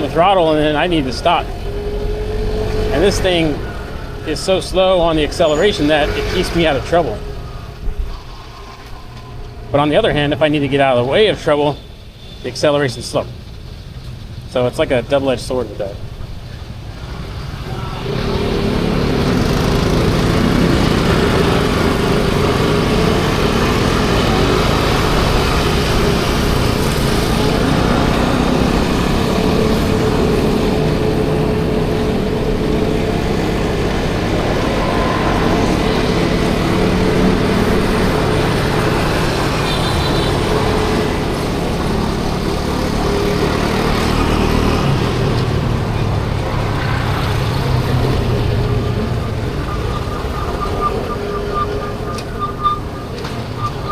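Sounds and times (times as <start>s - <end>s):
scooter engine hum: 0.0s - 10.4s, 16.4s - 53.9s
road and traffic noise: 0.0s - 53.9s.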